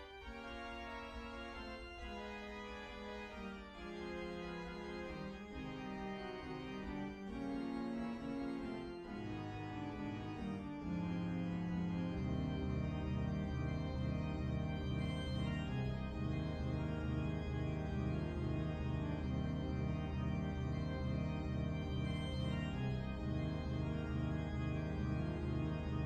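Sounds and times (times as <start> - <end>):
organ solo: 0.0 - 26.0.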